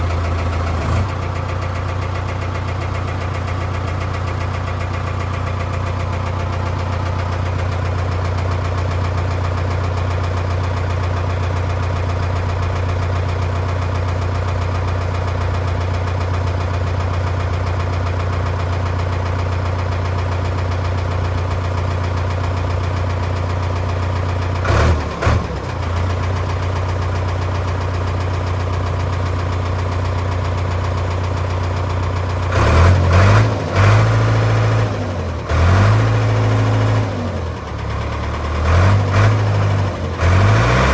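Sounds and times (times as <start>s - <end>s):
diesel engine idling with knock: 0.0s - 40.9s.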